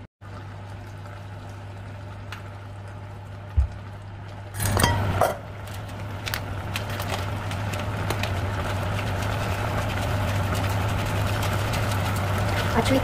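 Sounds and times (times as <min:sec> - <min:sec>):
food sizzling in a hot pan: 0:00.3 - 0:13.0.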